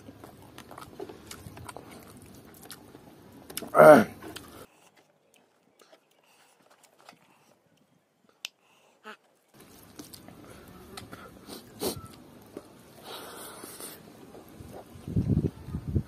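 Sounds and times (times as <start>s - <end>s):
chewing: 0.0s - 15.1s.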